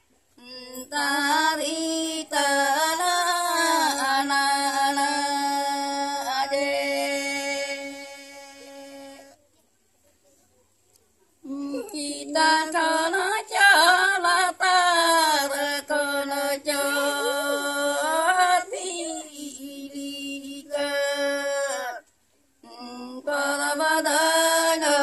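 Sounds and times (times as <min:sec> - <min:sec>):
women singing unaccompanied: 0:00.0 - 0:09.4, 0:11.4 - 0:25.0.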